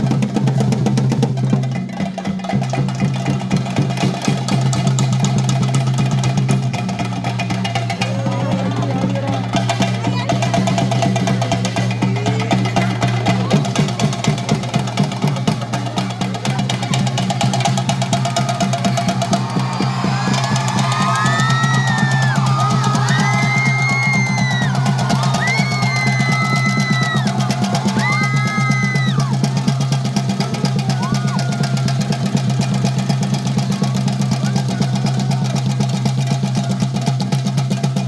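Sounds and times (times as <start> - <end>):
fast drum roll: 0.0 - 38.0.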